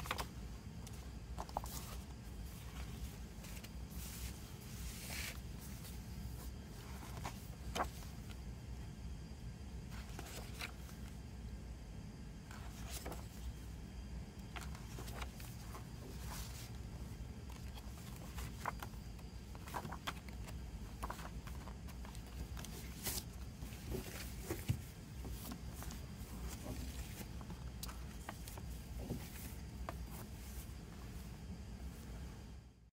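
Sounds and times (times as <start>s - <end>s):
paper pages turning: 0.0s - 8.4s, 9.9s - 11.0s, 12.5s - 13.5s, 14.4s - 30.8s
steady low hum: 0.0s - 32.9s.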